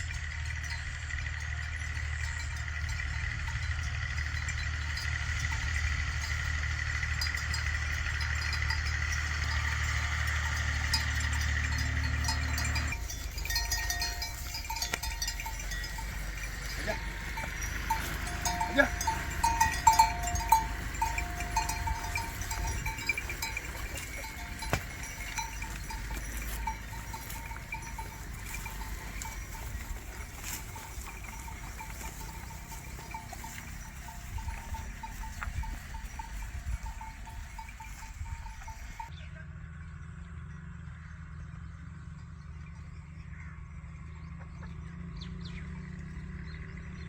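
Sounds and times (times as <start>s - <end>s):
oxen bells jingling: 0.0s - 39.2s
low engine hum: 0.0s - 47.0s.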